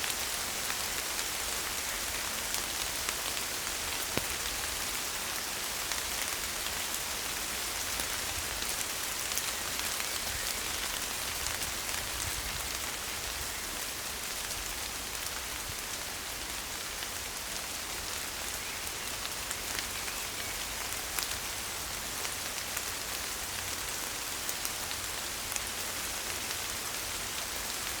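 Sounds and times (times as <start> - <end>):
rain on leaves: 0.0 - 28.0.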